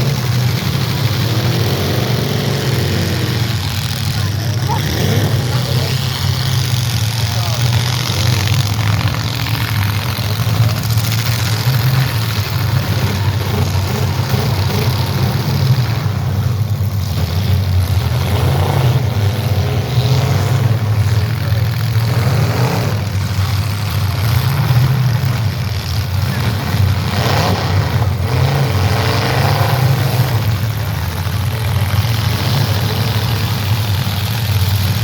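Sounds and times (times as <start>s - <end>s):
car engines running and revving: 0.0s - 35.0s.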